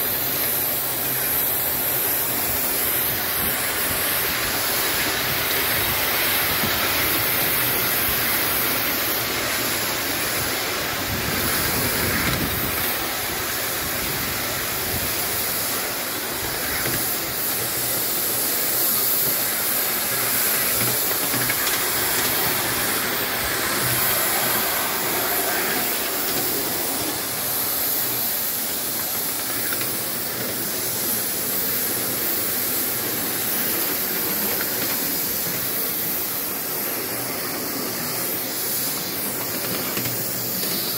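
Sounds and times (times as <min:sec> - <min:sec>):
hiss of steam: 0:00.0 - 0:40.9
model train running: 0:00.0 - 0:40.9.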